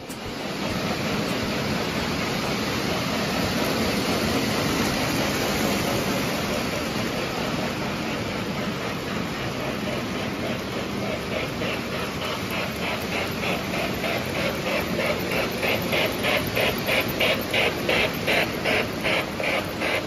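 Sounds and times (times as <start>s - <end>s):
model train rolling on track: 0.0s - 20.0s.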